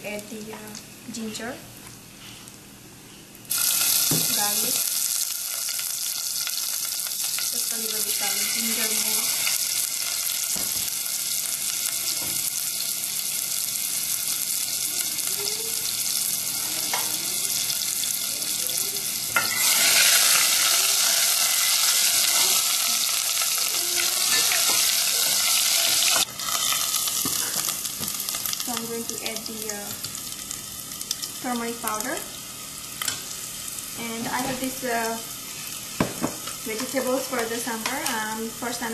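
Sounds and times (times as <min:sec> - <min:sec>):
hot oil sizzling: 0:03.4 - 0:38.9.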